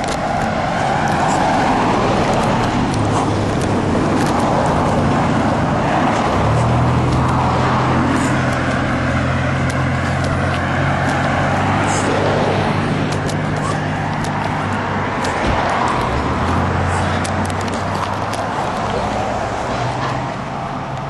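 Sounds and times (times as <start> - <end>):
car engine hum: 0.0 - 21.0
road noise roar: 0.0 - 21.0.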